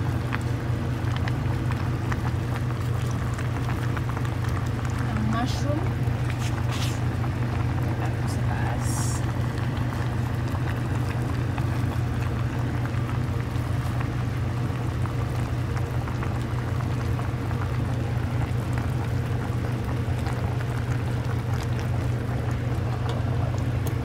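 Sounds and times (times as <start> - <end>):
pot bubbling on stovetop: 0.0 - 24.0
steady low rumble: 0.0 - 24.0.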